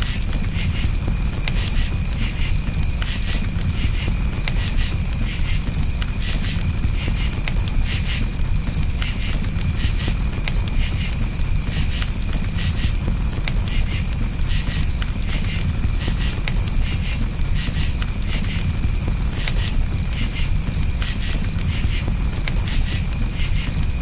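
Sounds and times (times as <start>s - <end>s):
campfire crackling: 0.0s - 24.0s
crickets chirping: 0.0s - 24.0s
low rumble of fire: 0.0s - 24.0s.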